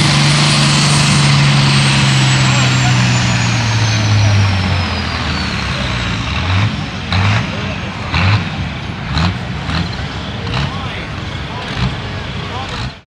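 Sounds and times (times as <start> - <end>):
high turbo whine: 0.0 - 13.0
tractor engine winding down: 0.0 - 13.0.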